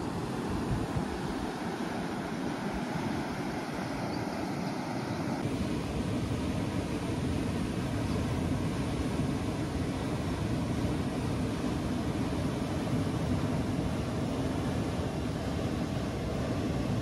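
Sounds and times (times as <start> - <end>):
water rushing through channel: 0.0 - 17.0.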